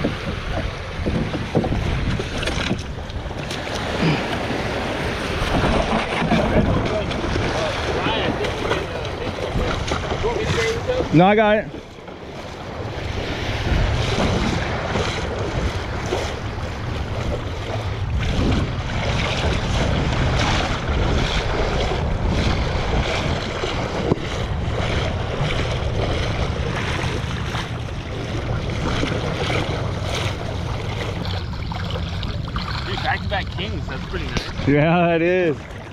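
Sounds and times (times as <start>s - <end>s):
water lapping against boat: 0.0s - 35.9s
wind rumbling on microphone: 0.0s - 35.9s.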